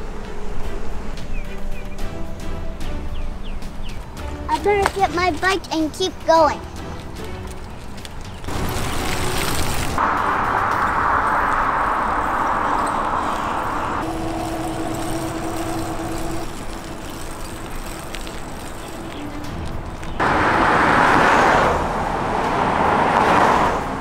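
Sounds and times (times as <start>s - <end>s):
car tyre noise on asphalt: 0.0s - 5.0s, 6.6s - 24.0s.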